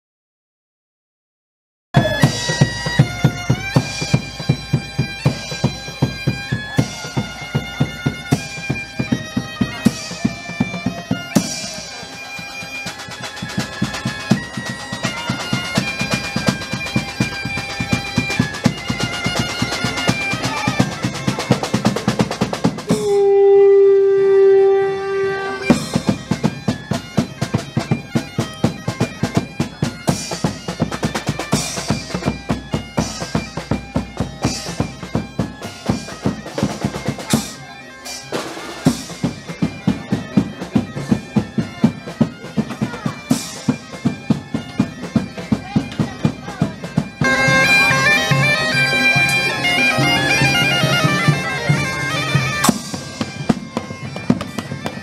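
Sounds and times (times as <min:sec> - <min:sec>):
rhythmic drumming: 0:02.0 - 0:23.4, 0:25.3 - 0:55.0
bagpipe playing: 0:02.0 - 0:55.0.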